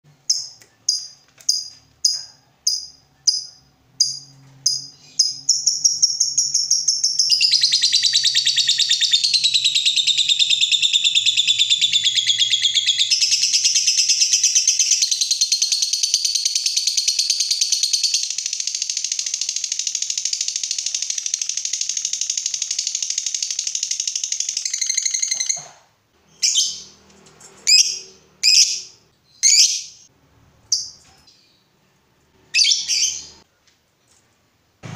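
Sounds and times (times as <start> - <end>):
bird chirping and trilling: 0.3 - 25.6, 26.3 - 27.0, 27.6 - 31.7, 32.5 - 33.4.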